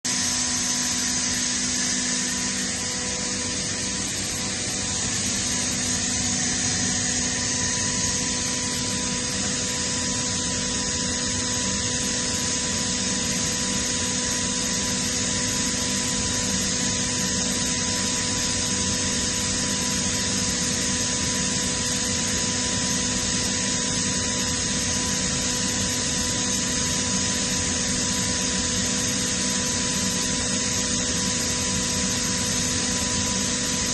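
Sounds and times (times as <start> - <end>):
air compressor running: 0.0 - 33.9.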